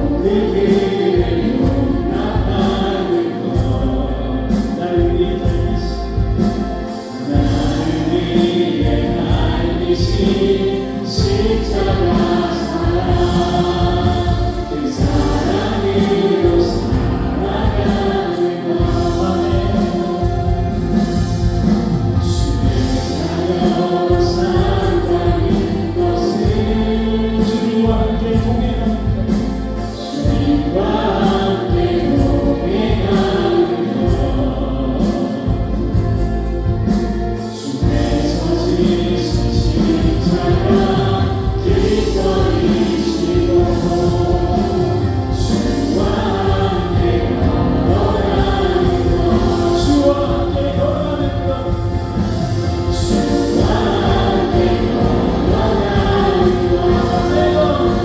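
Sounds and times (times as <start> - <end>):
band playing worship song: 0.0 - 58.0
voices singing together: 0.0 - 58.0.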